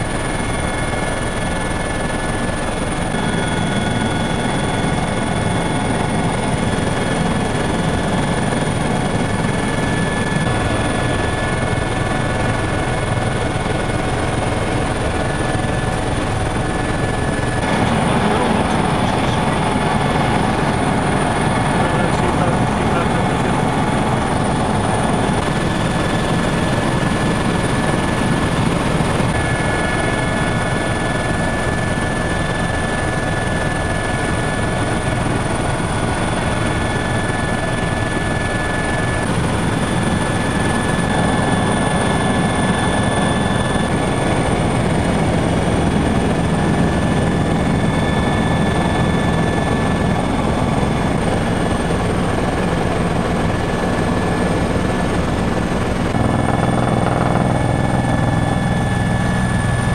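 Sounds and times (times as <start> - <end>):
helicopter rotor and engine din: 0.0 - 59.9.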